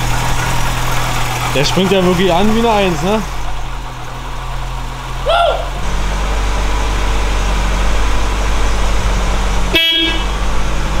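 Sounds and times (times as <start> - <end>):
car engine fast idle: 0.0 - 9.0.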